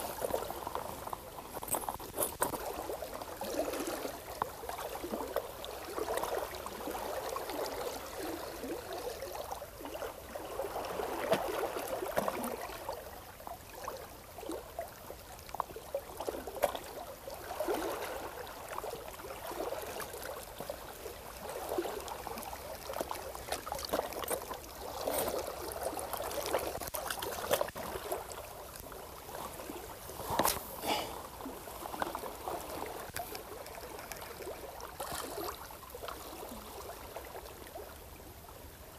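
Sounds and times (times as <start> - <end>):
small waves lapping on rocks: 0.0 - 38.9.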